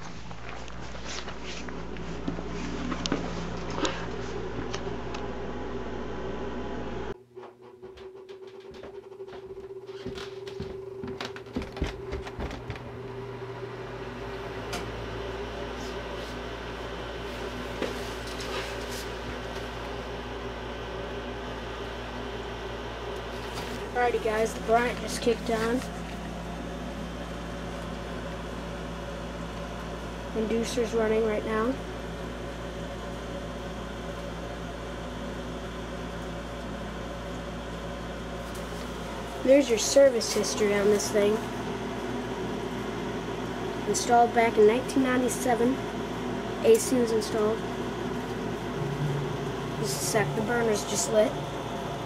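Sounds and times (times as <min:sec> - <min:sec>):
furnace motor humming: 0:00.0 - 0:52.0.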